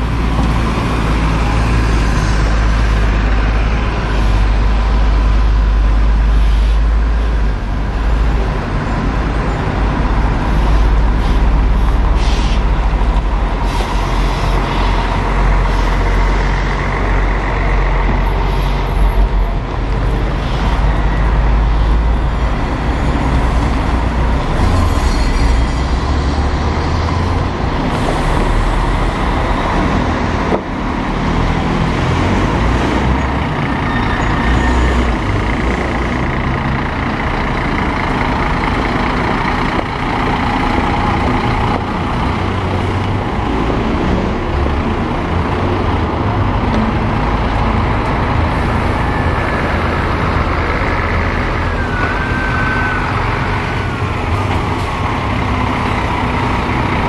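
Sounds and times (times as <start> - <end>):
diesel coach engine rumbling: 0.0 - 57.0.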